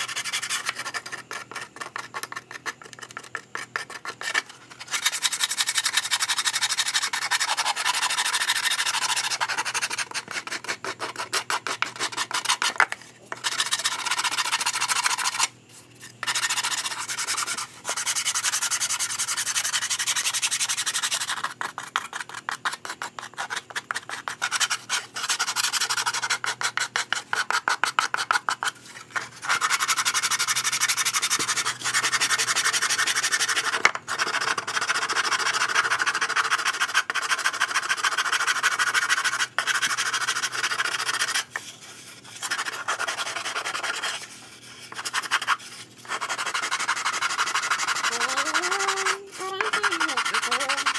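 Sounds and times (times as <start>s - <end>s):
sandpaper rubbing on plywood: 0.0s - 2.4s, 3.8s - 12.8s, 13.4s - 15.5s, 16.1s - 50.9s.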